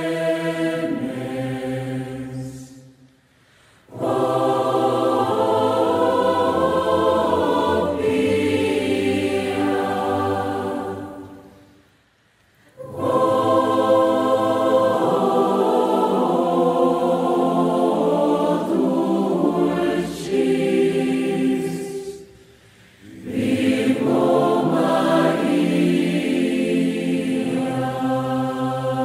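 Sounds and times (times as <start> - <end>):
choir singing long notes: 0.0 - 3.2, 3.8 - 12.0, 12.6 - 29.0.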